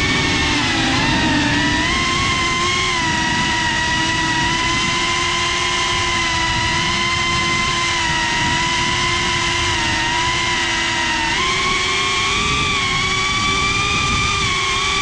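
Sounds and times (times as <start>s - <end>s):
drone motors whining: 0.0s - 15.0s
rushing prop wash and wind: 0.0s - 15.0s.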